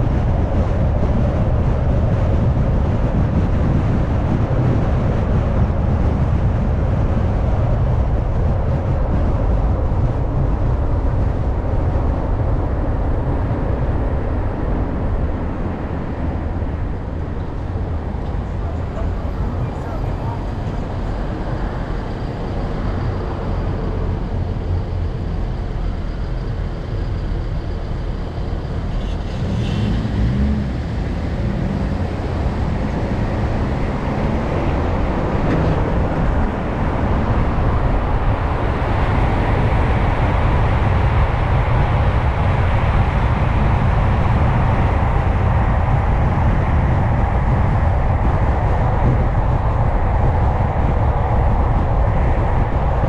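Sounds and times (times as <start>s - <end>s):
car tyre and engine noise: 0.0s - 53.0s.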